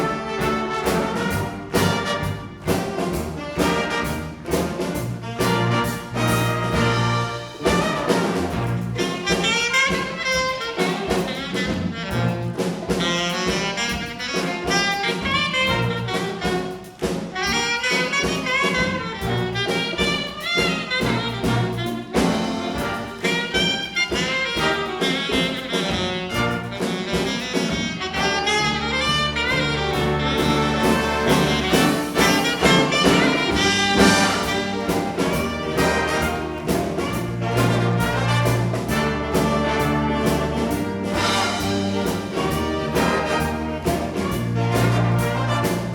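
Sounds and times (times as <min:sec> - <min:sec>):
jazz big band playing: 0:00.0 - 0:45.9.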